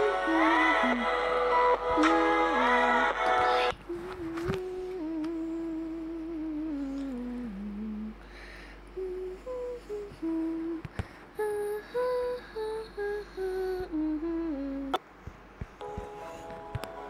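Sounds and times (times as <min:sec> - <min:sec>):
person humming a slow tune: 0:00.0 - 0:15.0.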